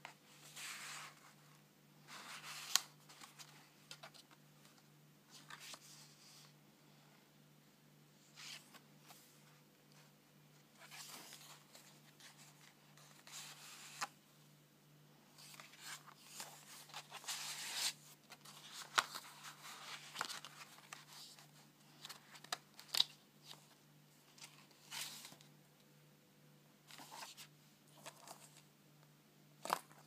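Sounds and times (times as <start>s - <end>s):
paper pages rustling: 0.0s - 1.5s, 2.1s - 6.5s, 8.3s - 14.2s, 15.4s - 25.5s, 26.9s - 28.7s, 29.6s - 30.0s.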